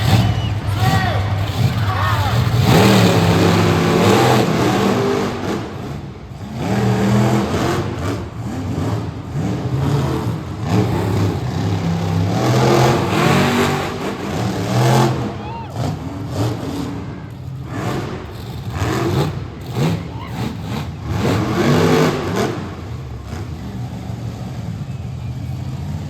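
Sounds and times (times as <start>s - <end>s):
monster truck engines revving: 0.0s - 26.0s.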